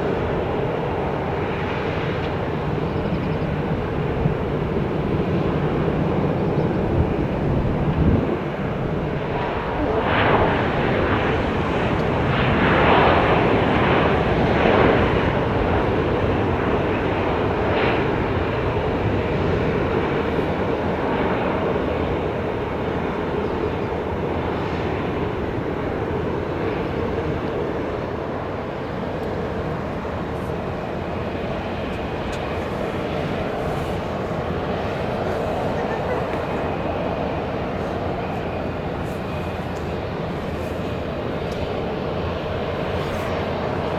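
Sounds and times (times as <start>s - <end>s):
jet engines rushing: 0.0s - 43.9s.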